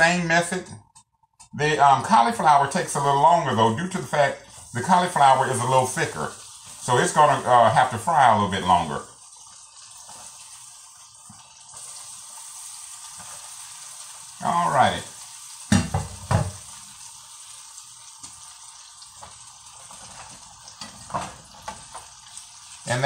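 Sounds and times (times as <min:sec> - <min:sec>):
food deep-frying in oil: 0:00.9 - 0:23.0.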